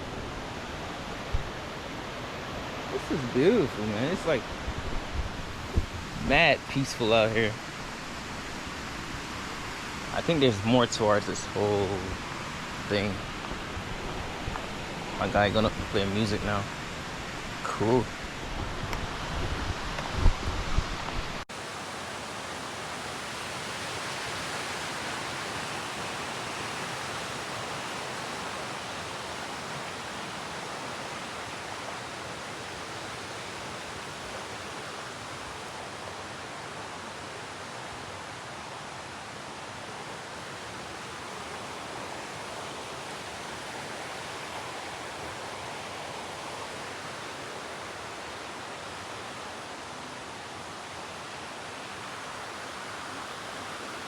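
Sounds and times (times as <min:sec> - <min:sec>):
rushing creek water: 0:00.0 - 0:54.0.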